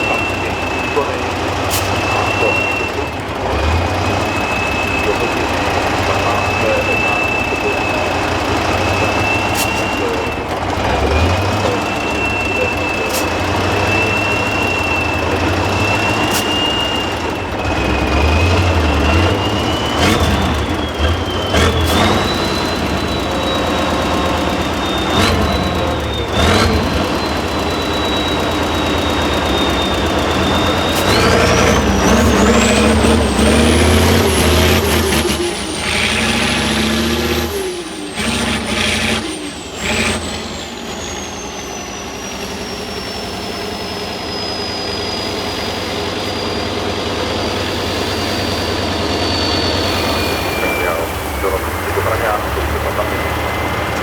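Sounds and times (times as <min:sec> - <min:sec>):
truck engine revving with whine: 0:00.0 - 0:54.0.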